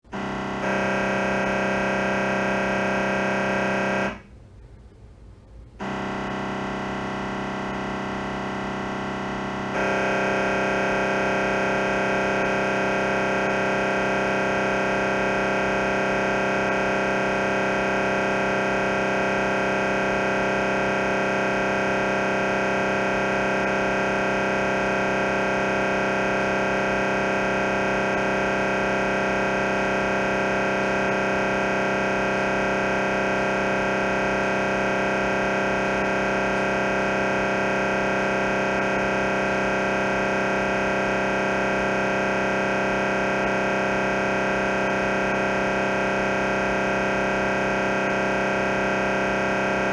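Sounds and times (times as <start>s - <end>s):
mri scanner buzzing: 0.1s - 4.3s, 5.6s - 49.9s.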